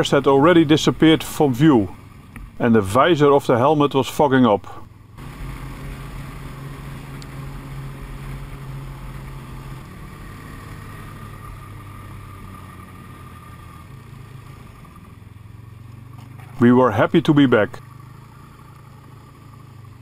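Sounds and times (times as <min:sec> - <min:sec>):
snowmobile engine running: 0:00.0 - 0:20.0.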